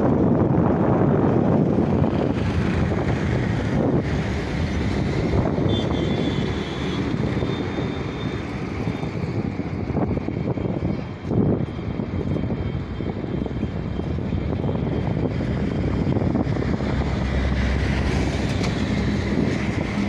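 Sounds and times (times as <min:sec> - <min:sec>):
road traffic passing: 0:00.0 - 0:20.0
wind buffeting microphone: 0:00.0 - 0:20.0.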